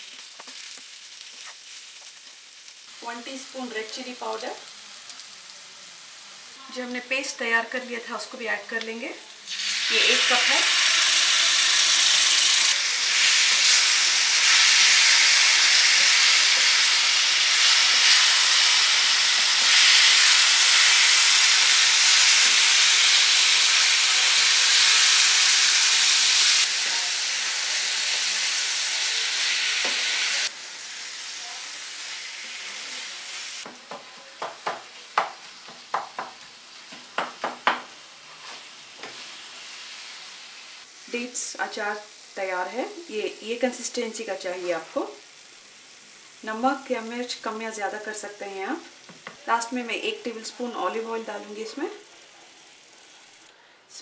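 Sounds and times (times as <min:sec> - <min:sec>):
paste sizzling in frying pan: 0:00.0 - 0:53.5.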